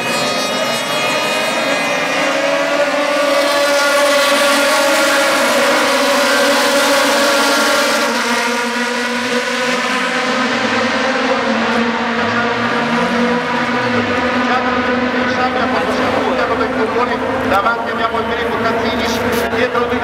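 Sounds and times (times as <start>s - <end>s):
racing car engines at high revs: 0.0s - 20.0s.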